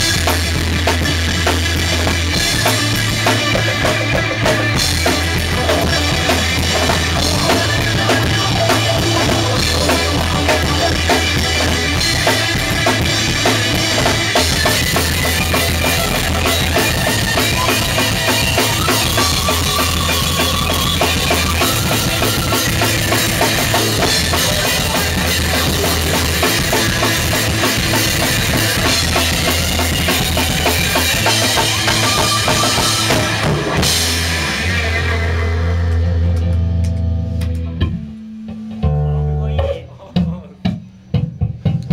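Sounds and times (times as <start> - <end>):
low electric guitar notes: 0.0 - 40.4
drum kit played loudly: 0.0 - 41.9.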